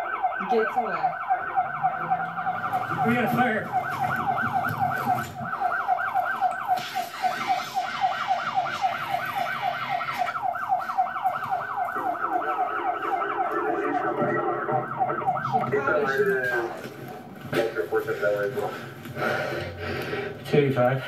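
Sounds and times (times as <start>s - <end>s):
police siren yelping: 0.0s - 19.0s.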